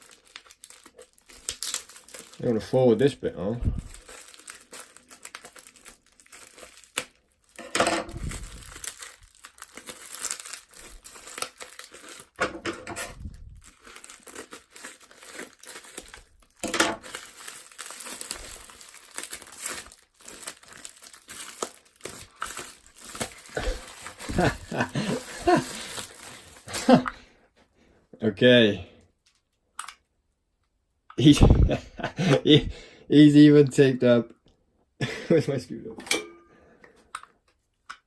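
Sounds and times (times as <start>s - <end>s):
wrapping and tape crinkling and tearing: 0.0s - 27.6s, 29.0s - 32.5s.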